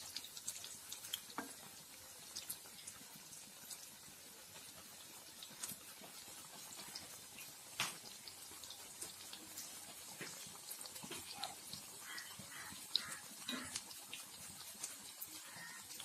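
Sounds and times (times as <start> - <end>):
food sizzling in hot oil: 0.0 - 16.0
oil crackling and popping: 0.0 - 16.0.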